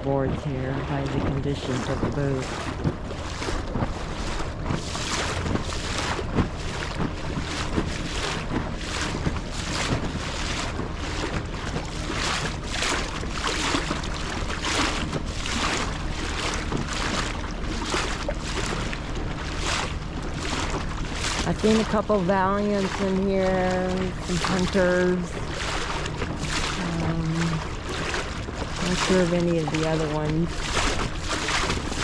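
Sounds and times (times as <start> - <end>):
boat motor hum: 0.0 - 32.0
water splashing against hull: 0.0 - 32.0
wind buffeting microphone: 0.0 - 32.0.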